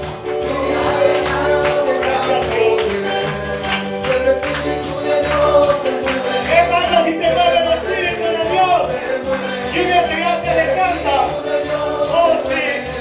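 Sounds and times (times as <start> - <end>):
bass line: 0.0 - 13.0
latin-style worship music: 0.0 - 13.0
tambourine keeping the beat: 0.0 - 13.0.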